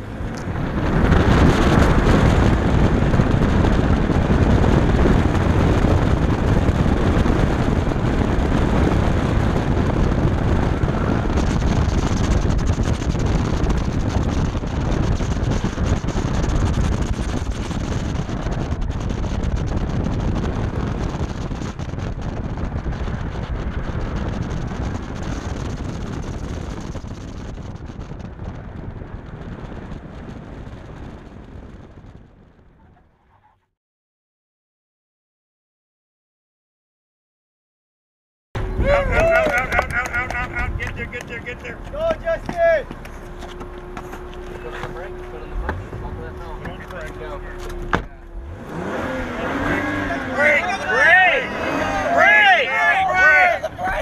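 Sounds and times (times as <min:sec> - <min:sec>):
car engine pulling hard: 0:00.0 - 0:33.0, 0:38.6 - 0:54.0
wind rushing over microphone: 0:00.0 - 0:33.6, 0:38.6 - 0:54.0.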